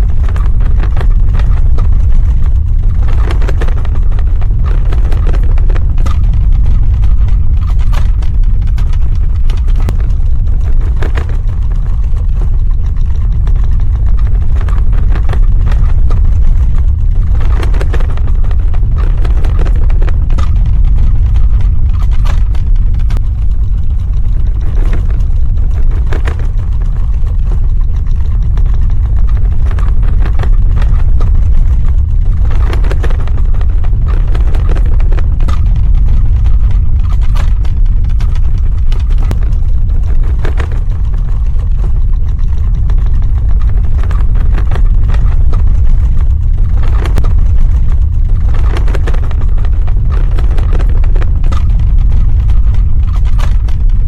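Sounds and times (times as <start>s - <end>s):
crackles and rattles: 0.0s - 54.0s
deep ground rumble: 0.0s - 54.0s.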